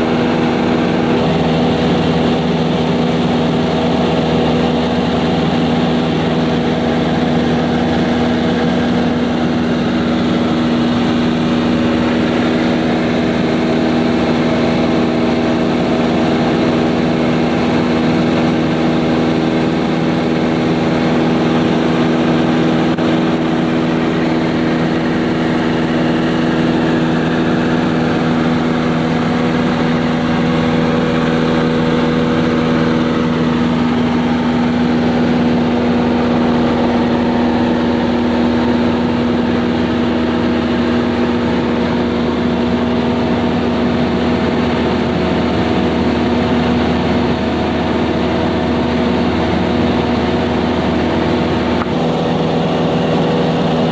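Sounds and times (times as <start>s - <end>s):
airplane engine droning: 0.0s - 53.9s.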